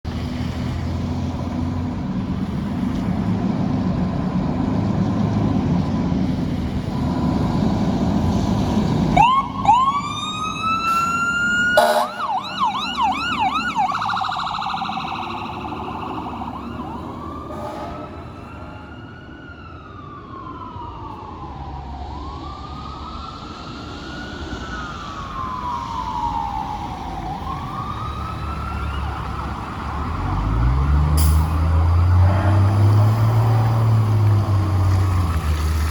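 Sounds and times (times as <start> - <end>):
traffic: 0.0 - 35.9
heavy truck rumble: 0.1 - 20.4, 23.6 - 35.9
fire engine electronic siren: 6.8 - 35.8.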